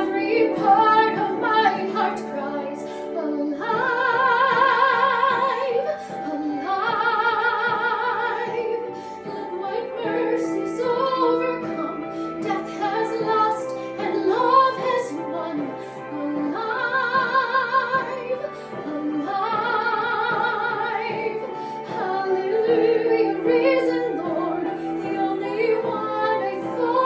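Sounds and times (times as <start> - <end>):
musical accompaniment: 0.0 - 27.0
woman singing: 0.0 - 27.0.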